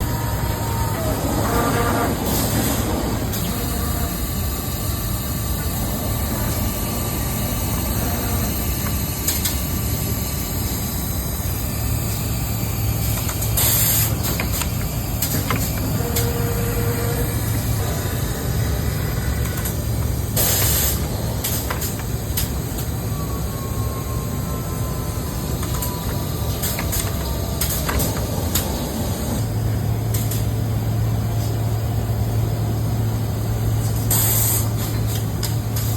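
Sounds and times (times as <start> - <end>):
machine humming: 0.0 - 33.8.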